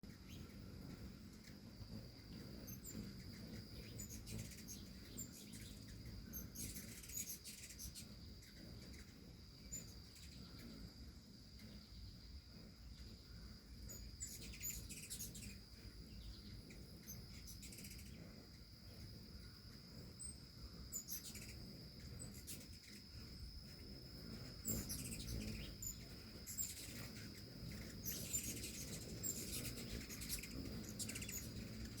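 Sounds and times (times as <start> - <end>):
high-pitched insect trill: 0.0 - 32.0
hummingbirds chirping: 0.0 - 32.0.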